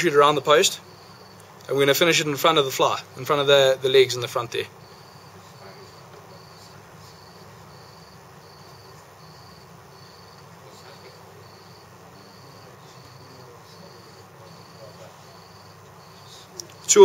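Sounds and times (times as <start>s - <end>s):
cricket chirping: 0.0s - 17.0s
faint room hiss: 0.0s - 17.0s.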